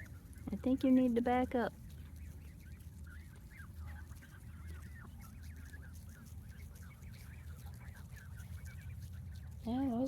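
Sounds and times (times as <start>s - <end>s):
geese calling: 0.0s - 10.0s.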